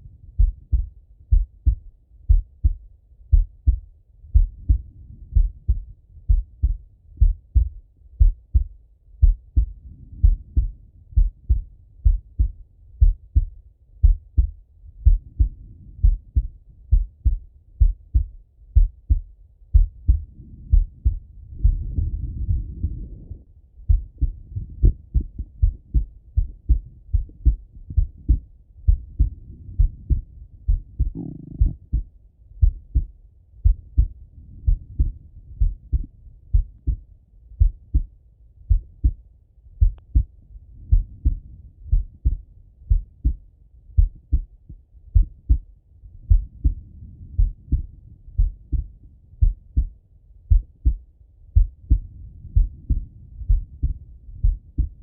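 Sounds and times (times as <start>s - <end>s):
heartbeat through stethoscope: 0.0s - 55.0s.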